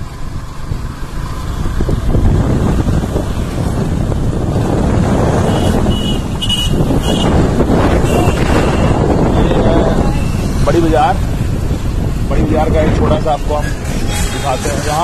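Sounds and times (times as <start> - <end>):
vehicle road noise: 0.0 - 15.0
wind on microphone: 0.6 - 15.0.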